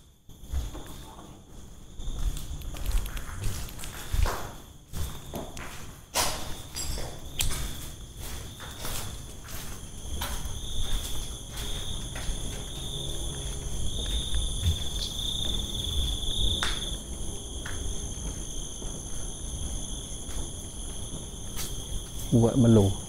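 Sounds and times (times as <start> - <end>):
footsteps knocking and scuffing: 0.0 - 23.0
insects chirring: 0.0 - 23.0.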